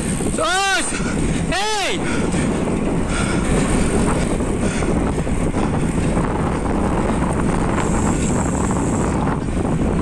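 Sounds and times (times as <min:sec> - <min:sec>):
bike tyres humming on concrete: 0:00.0 - 0:10.0
wind buffeting microphone: 0:00.0 - 0:10.0.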